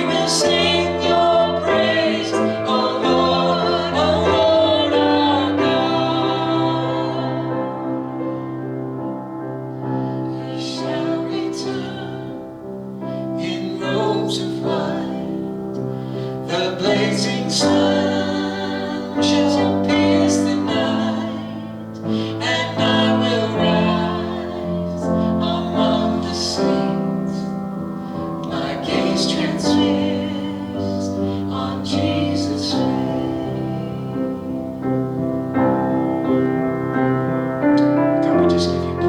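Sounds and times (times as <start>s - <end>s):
person singing a hymn: 0.0s - 39.0s
piano accompaniment: 0.0s - 39.0s.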